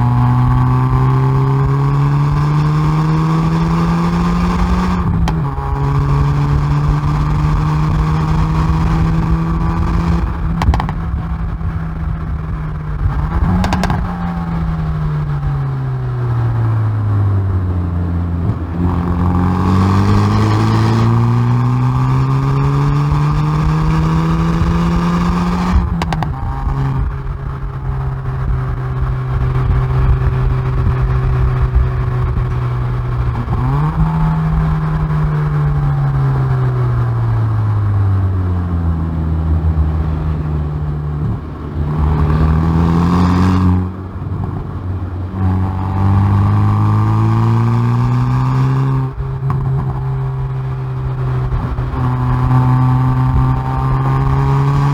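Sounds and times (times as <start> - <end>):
car engine accelerating hard: 0.0 - 54.9
exhaust crackle: 0.0 - 54.9.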